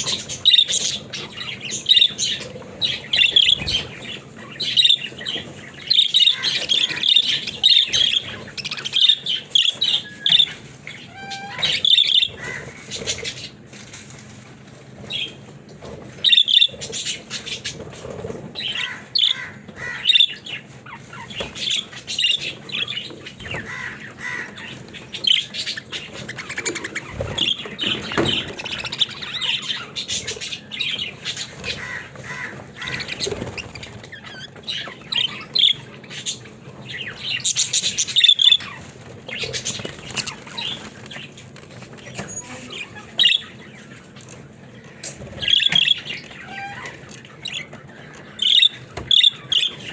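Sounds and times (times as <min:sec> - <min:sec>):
budgerigars chirping and chattering: 0:00.0 - 0:49.9.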